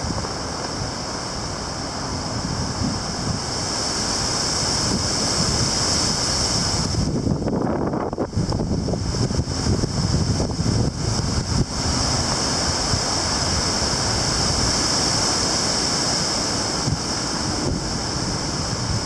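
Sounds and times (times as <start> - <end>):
strong wind blowing: 0.0 - 19.0.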